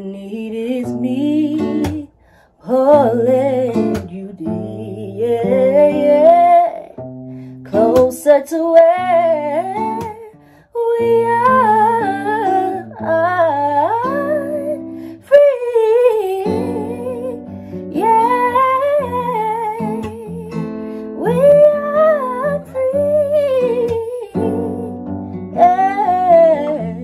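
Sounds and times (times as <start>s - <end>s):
woman singing with vibrato: 0.0s - 7.0s, 7.7s - 27.0s.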